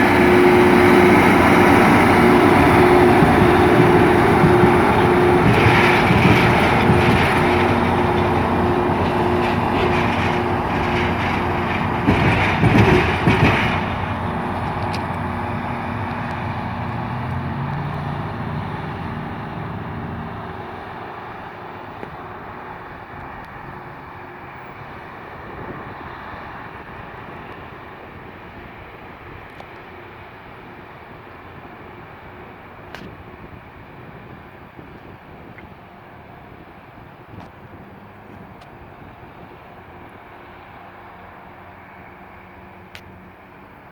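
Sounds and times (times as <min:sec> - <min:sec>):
rail grinder train passing: 0:00.0 - 0:43.9.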